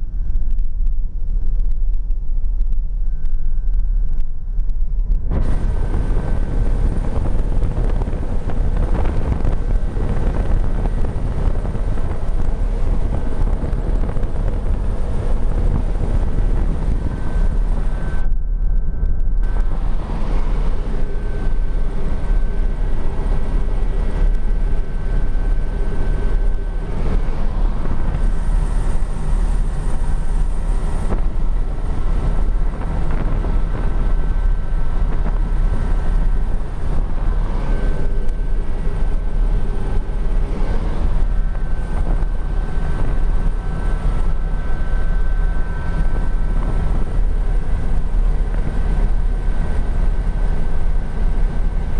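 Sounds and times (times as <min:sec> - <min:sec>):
helicopter engine and rotor: 0:05.3 - 0:51.9.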